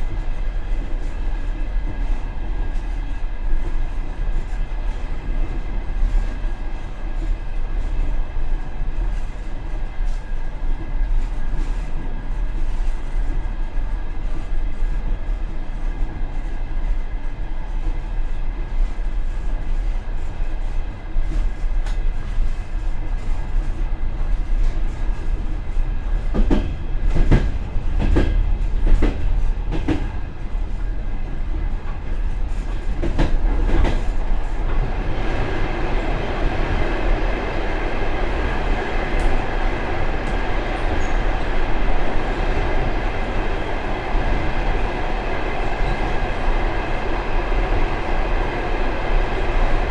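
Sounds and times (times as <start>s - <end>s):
train rumbling on rails: 0.0s - 49.9s.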